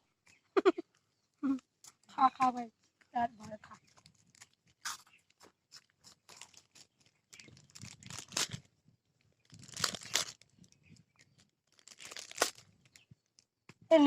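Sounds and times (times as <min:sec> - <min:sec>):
biscuits crunching when chewed: 0:00.2 - 0:13.5.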